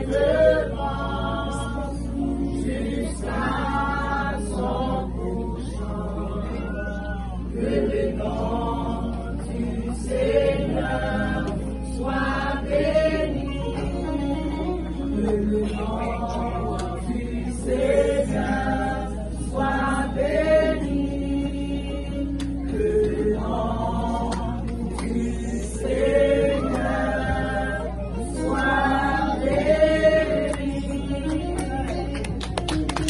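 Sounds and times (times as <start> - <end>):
choir singing a hymn: 0.0 - 32.4
steady low hum: 0.0 - 33.0.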